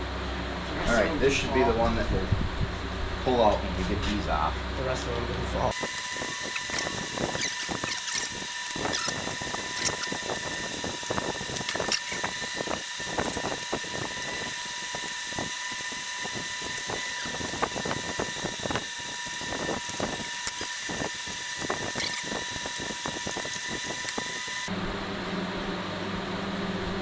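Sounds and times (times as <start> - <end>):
steady high hum: 0.0 - 27.0.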